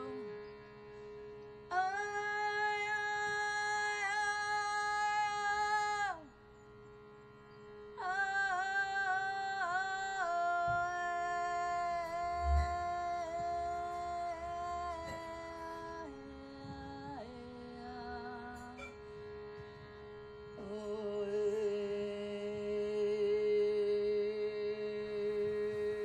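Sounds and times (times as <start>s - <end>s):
shruti box reed drone: 0.0s - 26.0s.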